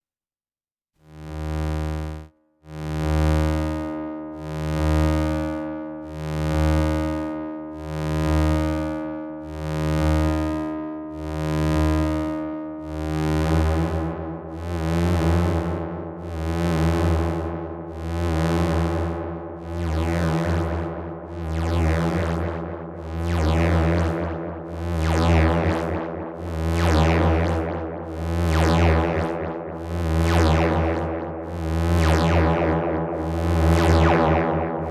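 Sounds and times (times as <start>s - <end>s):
pulsing low synthesizer drone: 1.2s - 34.9s.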